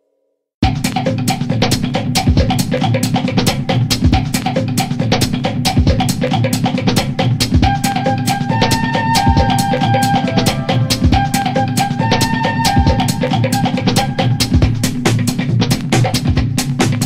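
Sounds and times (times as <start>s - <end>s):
background music with drum beat: 0.6s - 17.0s.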